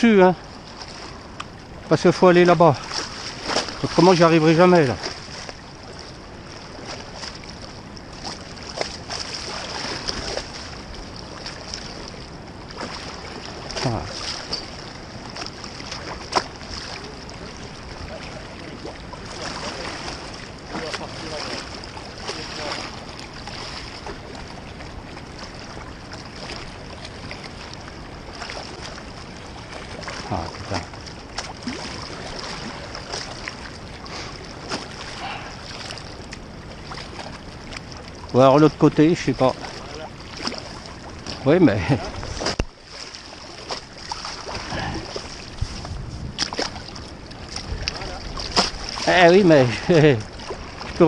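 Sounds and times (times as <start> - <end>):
river water lapping against bank: 0.0 - 51.0.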